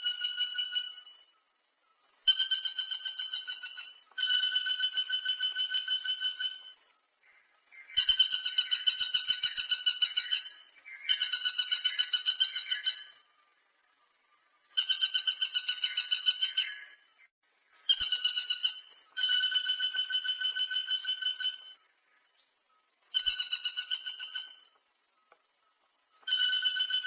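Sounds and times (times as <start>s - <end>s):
woodpecker calling: 0.0s - 27.0s.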